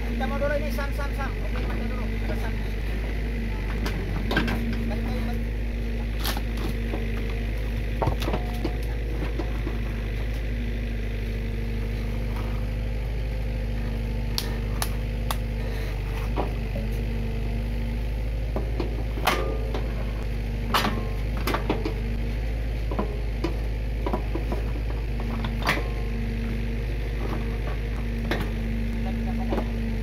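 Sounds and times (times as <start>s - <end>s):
diesel engine running: 0.0s - 30.0s
hydraulic humming: 0.0s - 30.0s.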